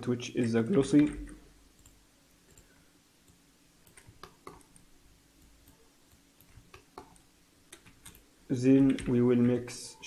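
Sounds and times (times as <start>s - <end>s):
faint steady hum: 0.0s - 10.0s
computer mouse clicks: 0.7s - 9.2s.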